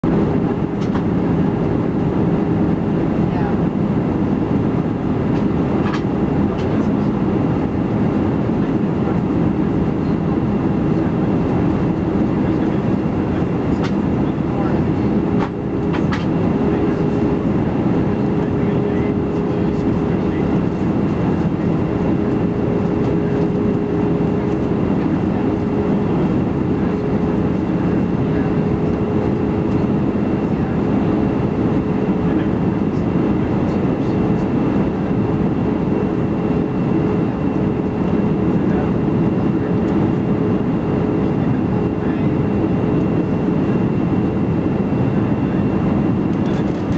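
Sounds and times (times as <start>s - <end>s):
jet engine rumble in cabin: 0.0s - 46.9s.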